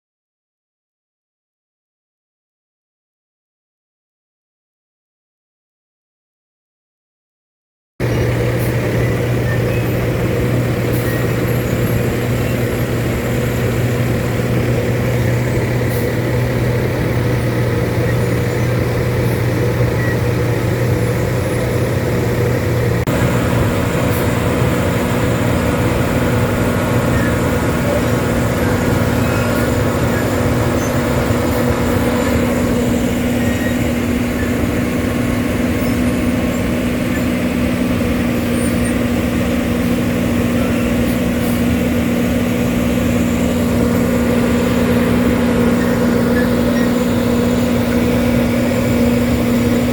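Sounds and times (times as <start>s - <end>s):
construction machinery engine drone: 8.0s - 49.9s.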